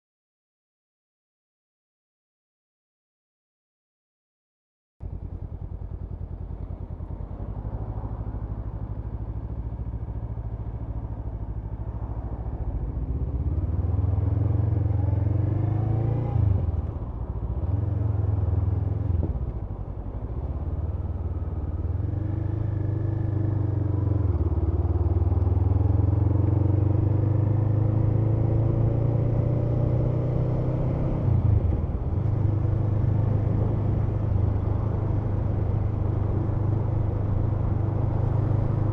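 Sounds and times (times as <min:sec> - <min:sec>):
motorcycle engine riding: 0:05.0 - 0:38.9.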